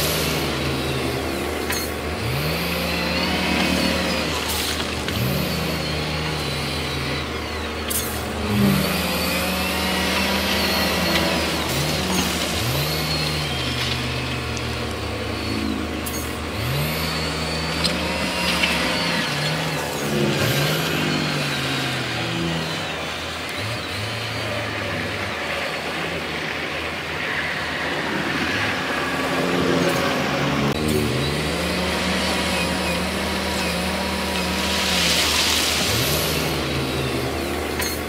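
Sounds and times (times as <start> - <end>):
diesel engine revving under load: 0.0 - 38.0.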